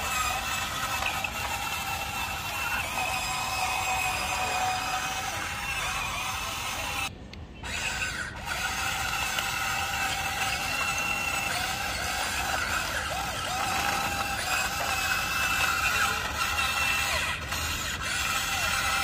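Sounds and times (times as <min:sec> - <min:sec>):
toy excavator motors whining: 0:00.0 - 0:19.0.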